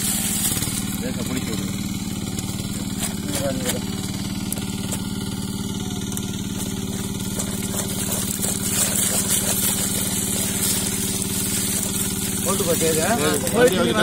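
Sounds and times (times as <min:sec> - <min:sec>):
fish thrashing and splashing: 0:00.0 - 0:14.0
small engine idling: 0:00.0 - 0:14.0.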